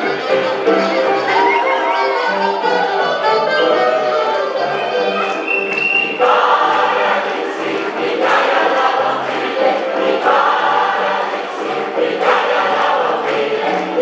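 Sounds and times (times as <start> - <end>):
large choir singing: 0.0 - 14.0.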